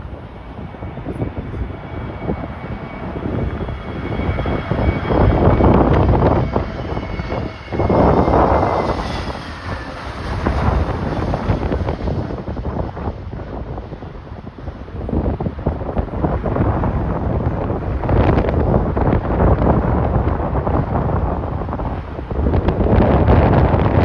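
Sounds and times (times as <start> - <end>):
jet engines whining: 0.0 - 24.0
wind gusts buffeting microphone: 0.0 - 24.0.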